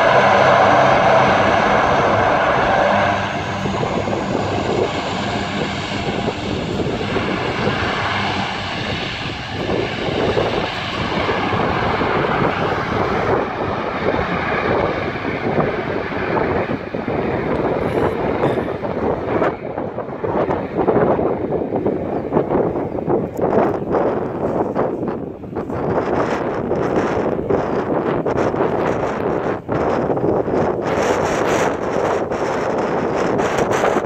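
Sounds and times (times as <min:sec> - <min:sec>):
turboprop engines droning: 0:00.0 - 0:34.0.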